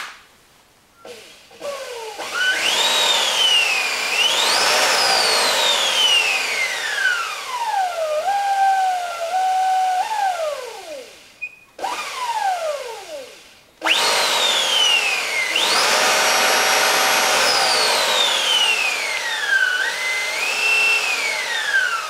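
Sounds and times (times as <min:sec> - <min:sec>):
electric motor whining: 0:01.1 - 0:22.0.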